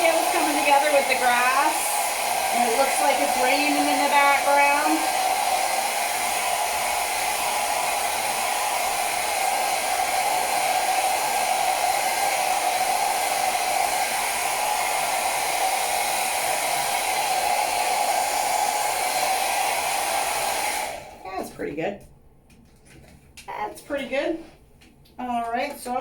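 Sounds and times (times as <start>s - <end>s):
hair dryer blowing: 0.0s - 21.5s.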